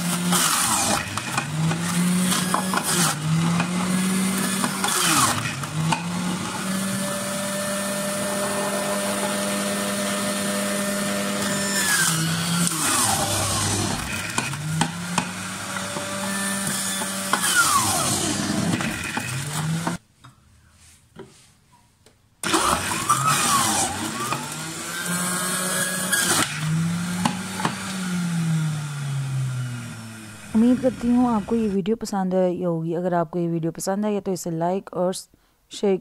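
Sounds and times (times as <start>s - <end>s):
juicer motor running: 0.0s - 20.0s, 22.4s - 31.8s.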